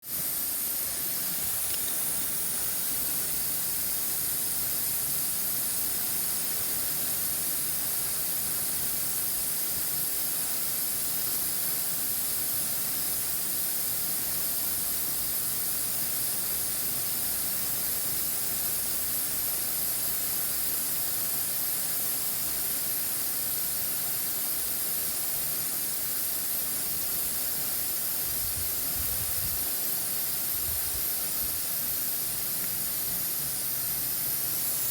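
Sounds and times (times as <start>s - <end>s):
water sprinkler spraying: 0.0s - 34.9s.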